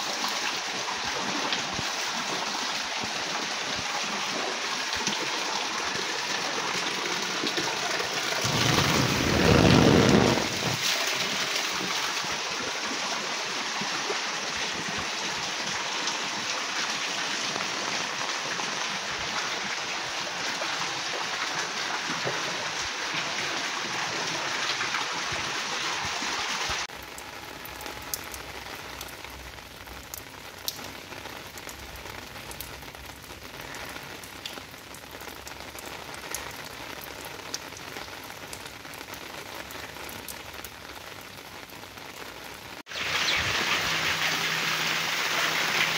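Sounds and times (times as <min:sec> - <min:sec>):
raindrops splashing on stone: 0:00.0 - 0:24.9, 0:26.8 - 0:45.9
heavy rain falling: 0:00.0 - 0:45.9.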